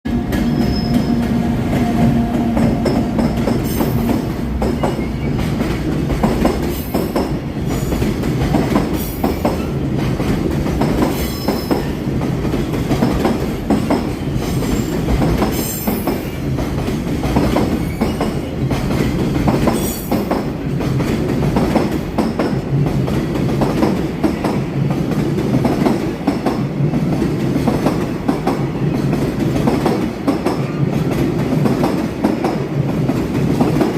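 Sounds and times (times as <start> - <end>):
freight train rumble: 0.0 - 33.9.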